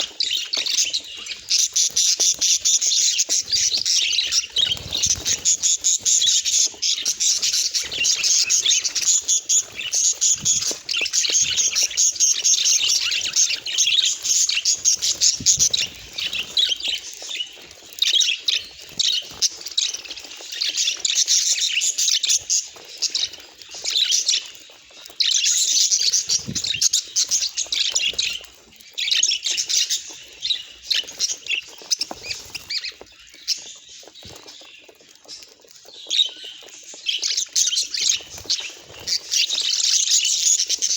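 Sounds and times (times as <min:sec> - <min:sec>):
budgerigars chattering and warbling: 0:00.0 - 0:40.9.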